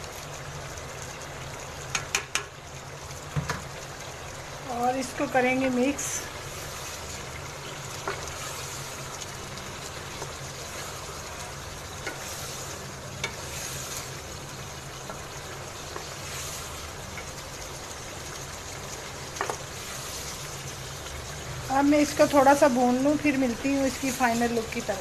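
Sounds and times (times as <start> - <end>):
chicken sizzling in a pan: 0.0 - 25.0.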